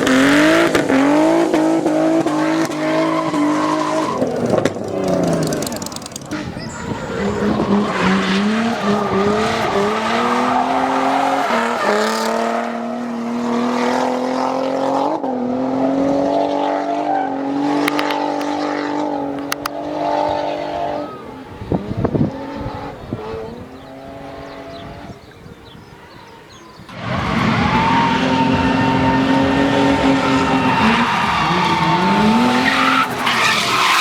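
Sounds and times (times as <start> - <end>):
tyre noise: 0.0 - 12.7, 17.6 - 34.0
engine at high revs: 0.0 - 25.2, 26.8 - 34.0.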